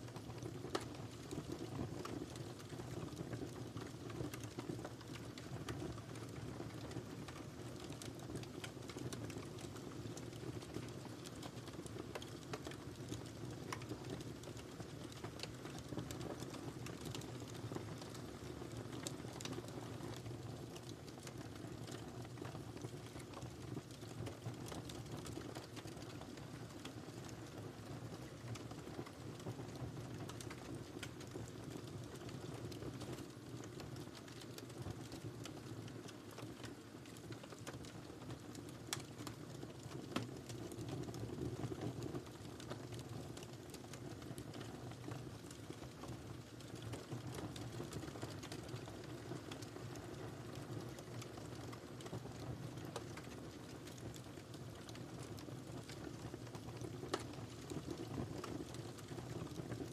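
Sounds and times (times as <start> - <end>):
wood fire crackling: 0.0 - 59.9
low rumble of flames: 0.1 - 59.9.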